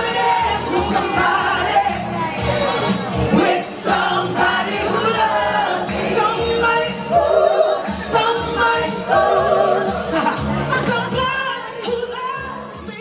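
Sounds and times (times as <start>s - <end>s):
backing music: 0.0s - 13.0s.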